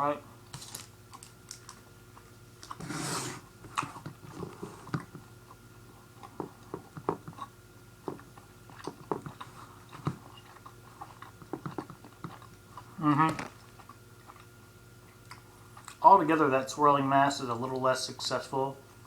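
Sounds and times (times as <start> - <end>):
person chewing: 0.6 - 16.0.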